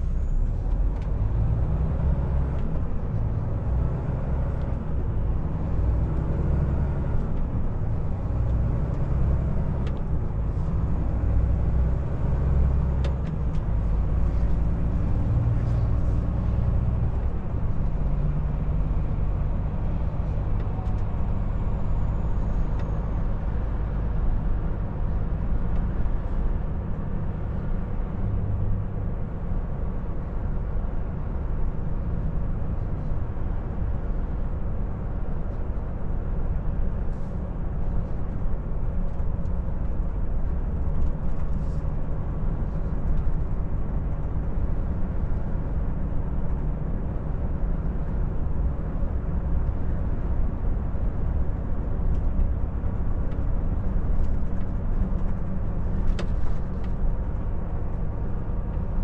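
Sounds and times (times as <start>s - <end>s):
diesel truck engine drone: 0.0s - 59.0s
tyre and road noise: 0.0s - 59.0s.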